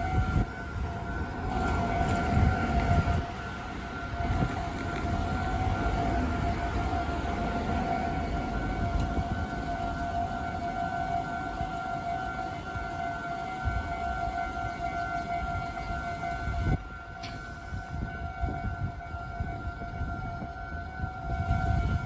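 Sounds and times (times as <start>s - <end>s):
level crossing warning bell: 0.0s - 22.0s.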